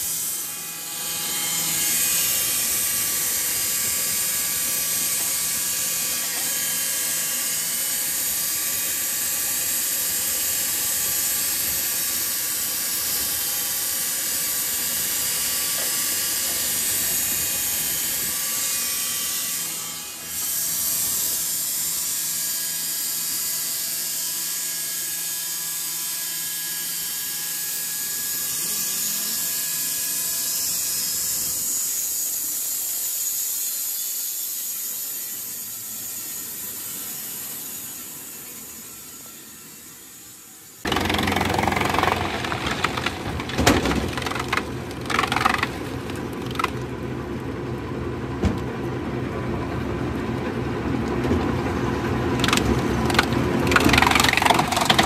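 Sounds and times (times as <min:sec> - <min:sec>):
band sawmill cutting log: 0:00.0 - 0:47.9, 0:51.3 - 0:55.0.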